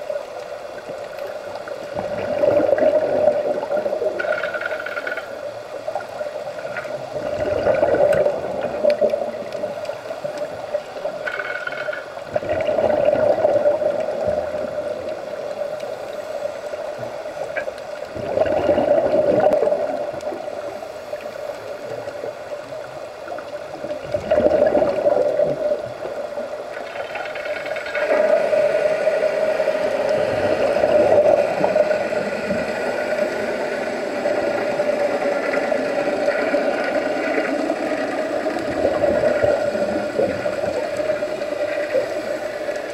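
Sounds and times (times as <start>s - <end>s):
underwater bubbles gurgling: 0.0s - 42.9s.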